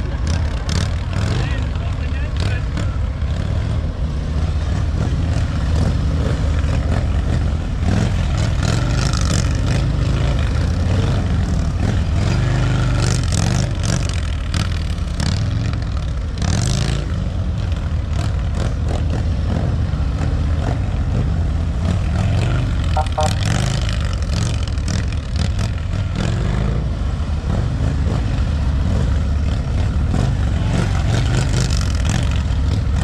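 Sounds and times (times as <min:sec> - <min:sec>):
motorcycle engines running: 0:00.0 - 0:33.0.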